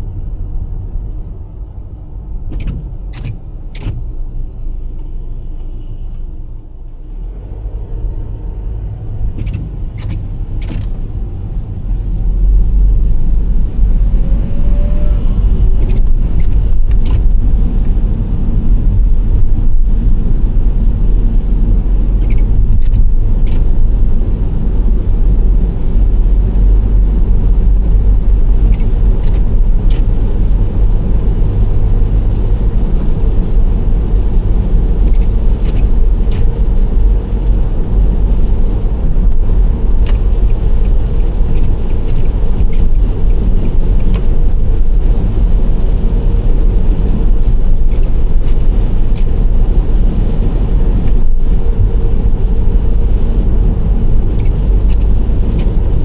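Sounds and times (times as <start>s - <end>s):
minivan tyres and engine rumble: 0.0s - 56.0s.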